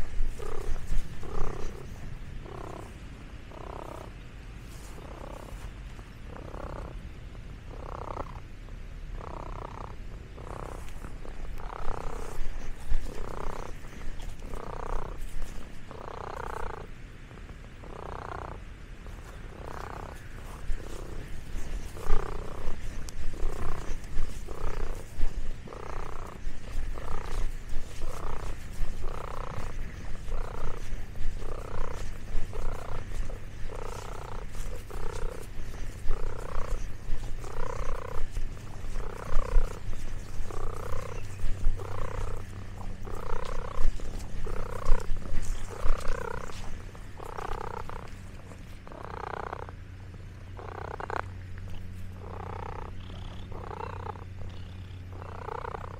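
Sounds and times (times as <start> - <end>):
cat purring: 0.0 - 5.7, 6.3 - 7.0, 7.7 - 8.5, 9.1 - 49.8, 50.6 - 55.9.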